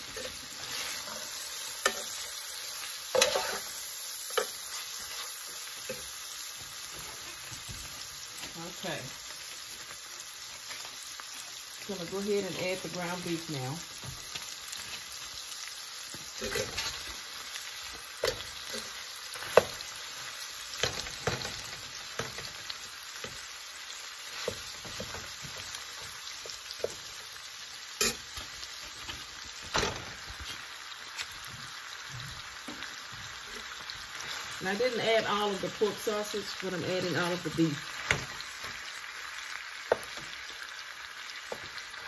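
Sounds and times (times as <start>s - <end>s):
food sizzling in a skillet: 0.0s - 42.0s.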